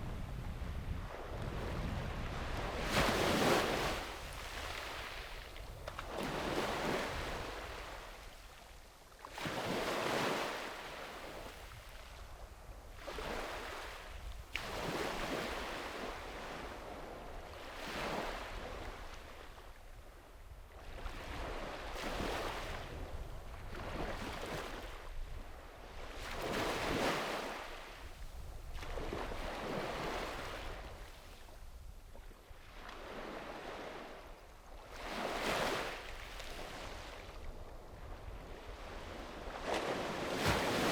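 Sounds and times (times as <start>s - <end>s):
low rumble of wind: 0.0s - 9.2s, 11.2s - 40.9s
small waves breaking on sand: 0.0s - 40.9s.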